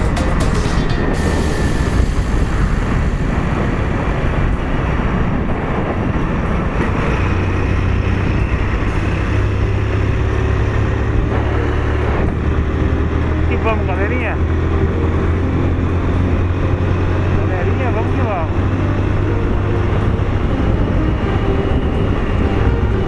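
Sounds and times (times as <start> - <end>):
motorcycle engine hum: 0.0 - 23.0
wind rumble on microphone: 0.8 - 23.0.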